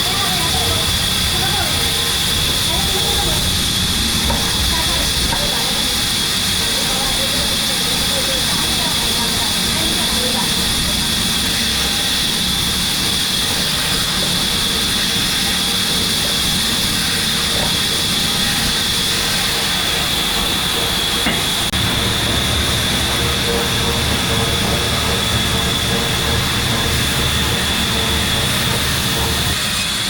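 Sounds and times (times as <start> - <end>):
machine hiss and rumble: 0.0 - 30.0.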